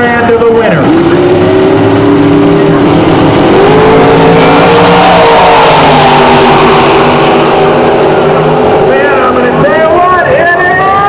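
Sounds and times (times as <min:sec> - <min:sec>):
race car engines at full throttle: 0:00.0 - 0:11.0.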